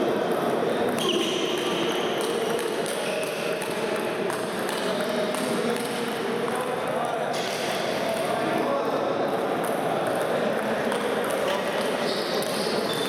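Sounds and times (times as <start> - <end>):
sports hall background noise: 0.0 - 13.0.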